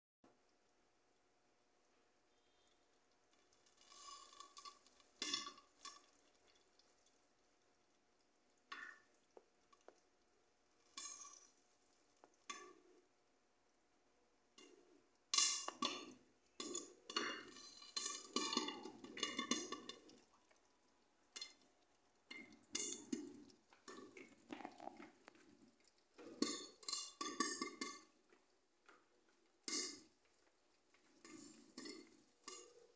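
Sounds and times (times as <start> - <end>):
popcorn popping in a covered pan: 3.2 - 13.1, 14.5 - 32.9.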